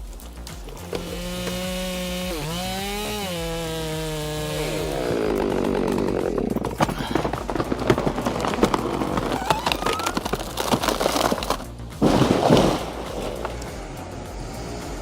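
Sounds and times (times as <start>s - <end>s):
tree crashing to ground: 0.0s - 14.1s
tree cracking and splintering: 0.0s - 15.0s.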